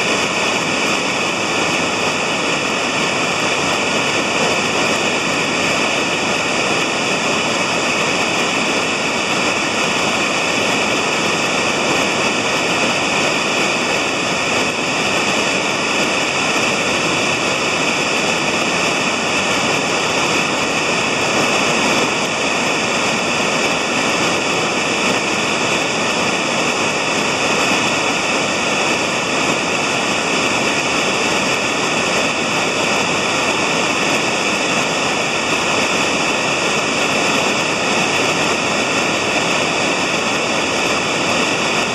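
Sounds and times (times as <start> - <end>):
whitewater rushing over rocks: 0.0 - 41.9.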